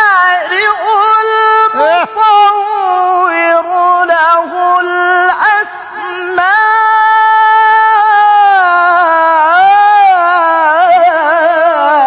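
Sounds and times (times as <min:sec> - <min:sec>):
person reciting melodically: 0:00.0 - 0:12.0.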